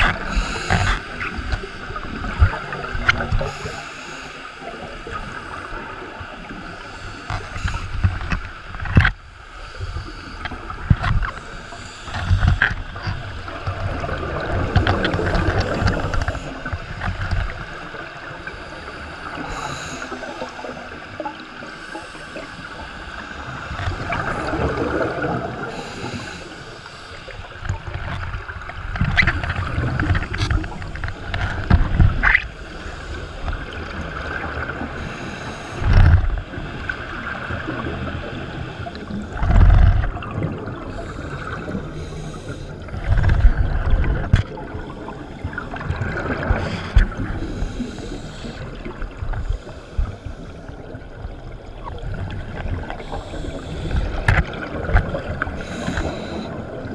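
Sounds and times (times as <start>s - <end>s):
watery hiss: 0.0s - 8.8s, 9.4s - 27.6s, 32.4s - 39.5s, 40.6s - 44.0s, 45.0s - 50.8s, 52.6s - 56.9s
exhaled bubbles rumbling underwater: 0.0s - 56.9s.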